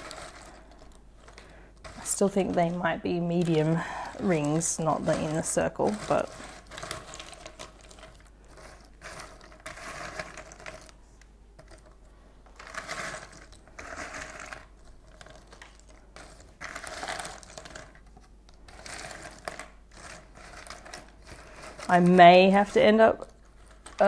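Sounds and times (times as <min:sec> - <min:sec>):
puzzle pieces rustling and clicking: 0:00.0 - 0:24.0.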